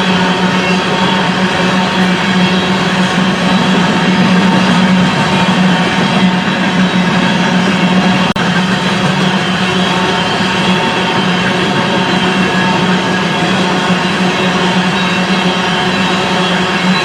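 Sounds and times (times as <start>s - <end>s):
diesel locomotive engines droning: 0.0s - 17.0s.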